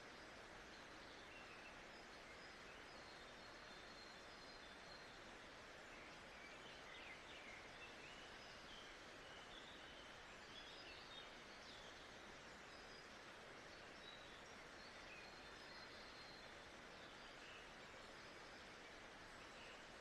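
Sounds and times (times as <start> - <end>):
soft steady hiss: 0.0 - 20.0.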